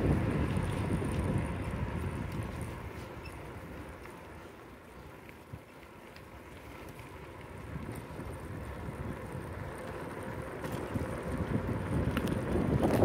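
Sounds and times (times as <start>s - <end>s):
wind buffeting microphone: 0.0s - 4.0s, 6.6s - 13.0s
bicycle tyres rolling on asphalt: 0.0s - 13.0s.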